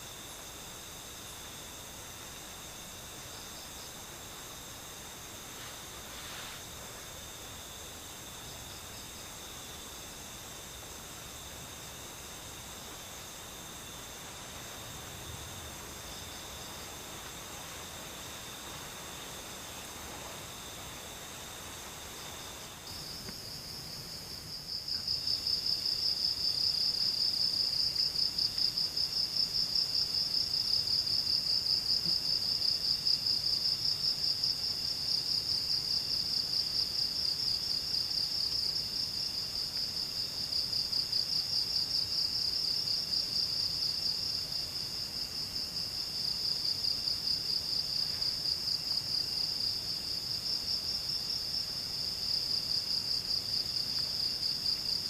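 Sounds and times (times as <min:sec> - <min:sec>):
faint pulsing insect call: 0:00.0 - 0:55.0.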